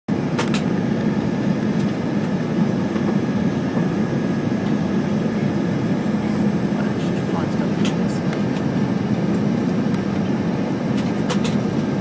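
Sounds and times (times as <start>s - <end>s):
airplane engine rumble in cabin: 0.1s - 12.0s.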